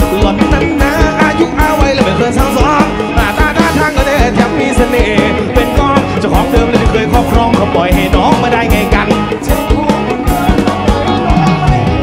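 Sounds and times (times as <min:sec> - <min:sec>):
drum kit beat: 0:00.0 - 0:12.0
electric guitar: 0:00.0 - 0:12.0
man singing: 0:00.0 - 0:12.0.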